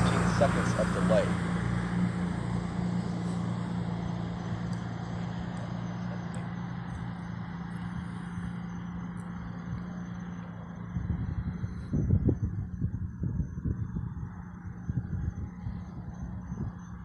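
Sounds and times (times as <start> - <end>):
rushing rumbling air noise: 0.0 - 10.0, 10.7 - 17.0
constant low hum: 0.0 - 17.0.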